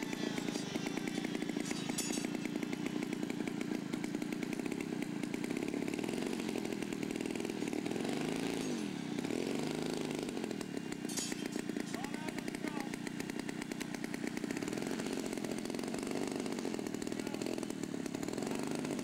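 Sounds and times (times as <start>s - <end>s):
model plane engine running: 0.0s - 11.0s, 11.6s - 19.0s.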